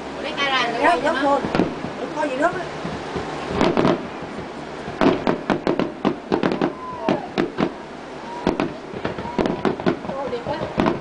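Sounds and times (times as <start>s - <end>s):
fireworks bangs and crackles: 1.2s - 11.0s.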